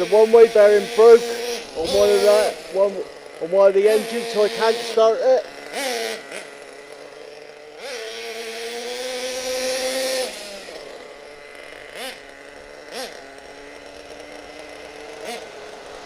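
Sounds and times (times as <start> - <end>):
small nitro engine revving: 0.0 - 16.0.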